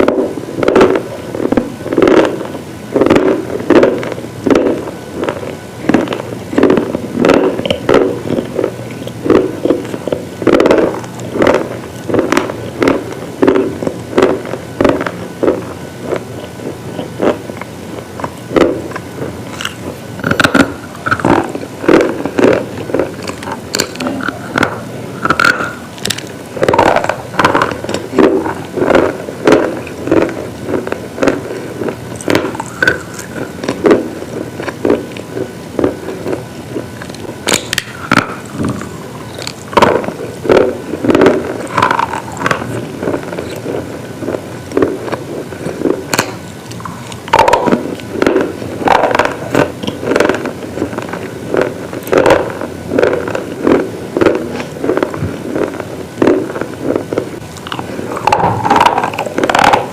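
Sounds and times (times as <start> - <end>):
person chewing crunchy food: 0.0 - 2.4, 3.0 - 59.9.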